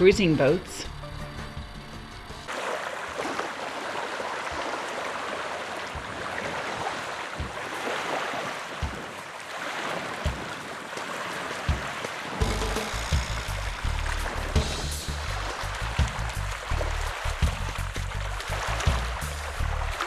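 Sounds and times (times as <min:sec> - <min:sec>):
water rushing along a boat: 0:02.4 - 0:20.0.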